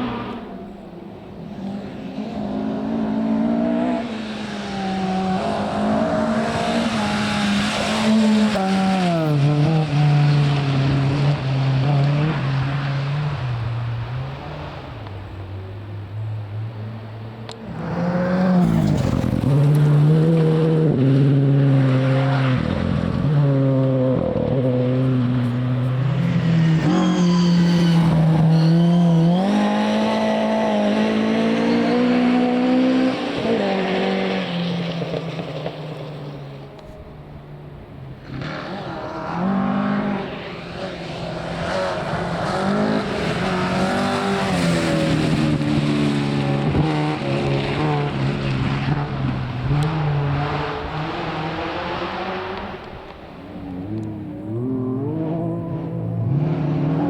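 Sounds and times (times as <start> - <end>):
rally car engine revving: 0.0 - 15.3, 16.5 - 36.9, 38.2 - 57.0.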